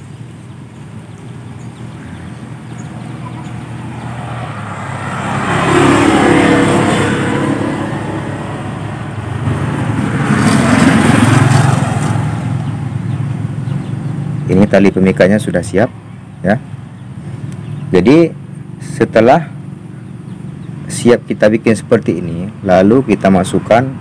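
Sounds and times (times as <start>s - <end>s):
motor vehicles passing by: 0.0s - 24.0s.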